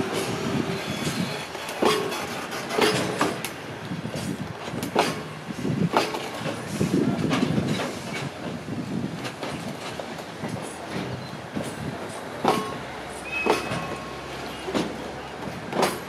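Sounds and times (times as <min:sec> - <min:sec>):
train wheels rumbling: 0:00.0 - 0:16.0
wheels clacking over rail joints: 0:00.0 - 0:16.0.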